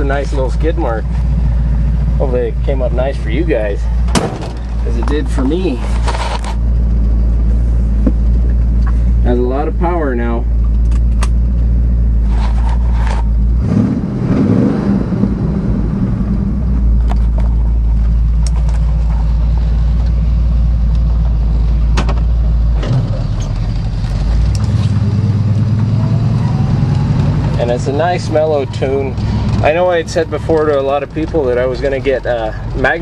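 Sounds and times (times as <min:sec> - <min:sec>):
vehicle engine exhaust note: 0:00.0 - 0:33.0.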